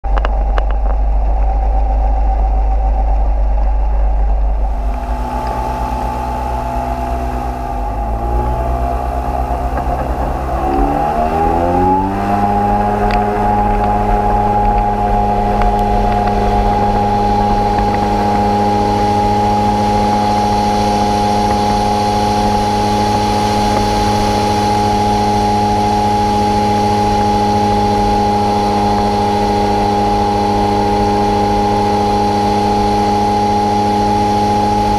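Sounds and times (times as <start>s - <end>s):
propeller engine droning: 0.0s - 34.9s.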